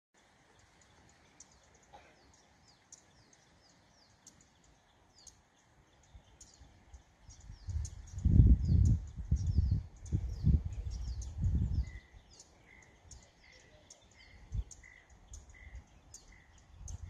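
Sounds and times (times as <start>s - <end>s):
faint outdoor hiss: 0.2s - 17.0s
small birds chirping: 0.2s - 17.0s.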